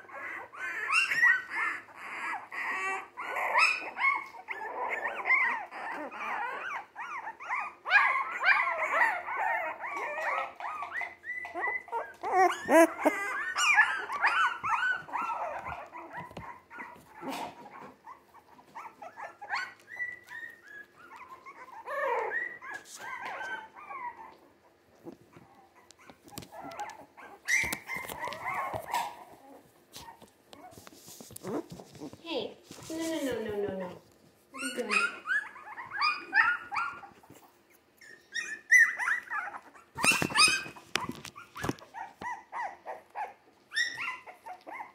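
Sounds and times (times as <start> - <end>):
puppies whining: 0.0 - 44.9.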